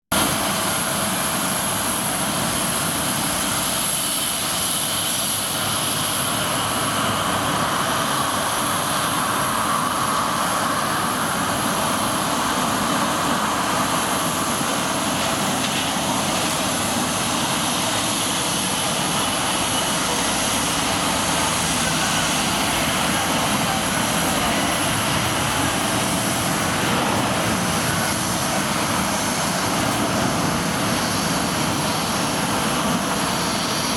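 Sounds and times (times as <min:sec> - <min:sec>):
jet engines rushing and whining: 0:00.1 - 0:33.9.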